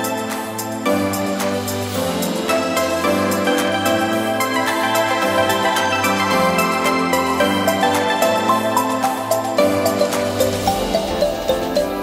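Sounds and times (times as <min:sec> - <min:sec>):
light electronic music: 0:00.0 - 0:12.0.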